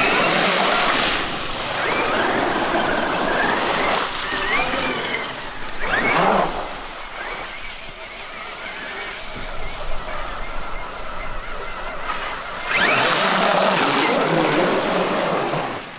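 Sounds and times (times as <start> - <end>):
electric motor whine: 0.0 - 15.9.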